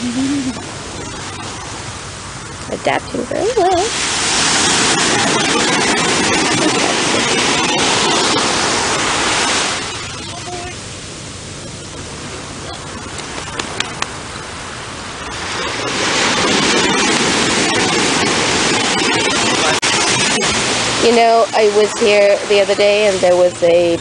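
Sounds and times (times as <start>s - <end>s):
surf: 0.0s - 24.0s
wind: 0.0s - 24.0s.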